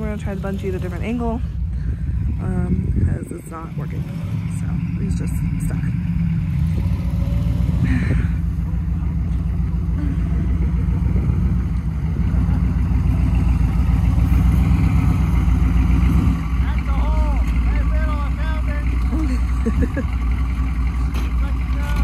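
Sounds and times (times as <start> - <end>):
truck engine running at low revs: 0.0 - 22.0.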